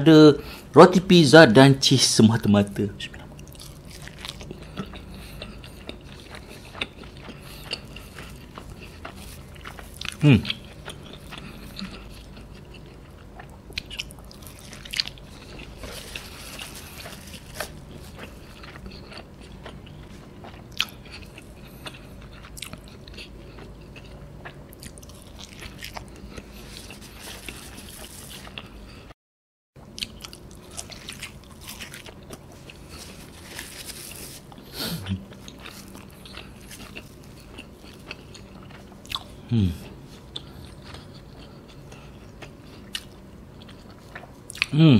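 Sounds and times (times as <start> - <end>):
person chewing crunchy pizza: 3.1 - 29.1, 29.8 - 44.9.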